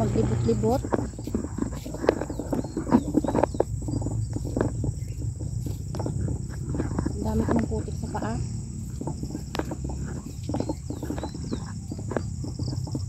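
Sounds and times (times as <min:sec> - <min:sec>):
footsteps on muddy leafy ground: 0:00.0 - 0:13.0
insects chirring: 0:00.0 - 0:13.0.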